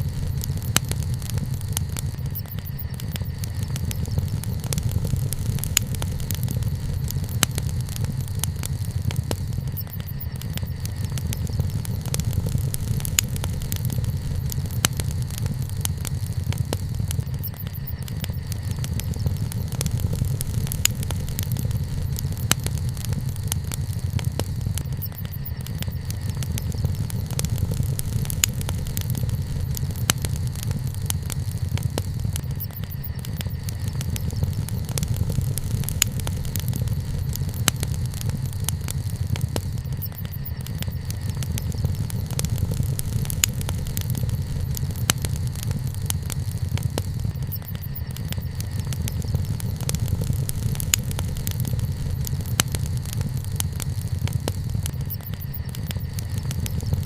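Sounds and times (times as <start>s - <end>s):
campfire low rumble: 0.0s - 57.0s
campfire wood crackling: 0.0s - 57.0s.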